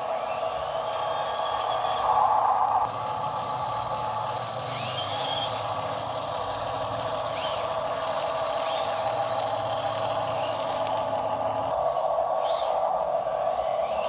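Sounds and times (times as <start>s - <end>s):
toy truck motor whining: 0.0s - 11.8s.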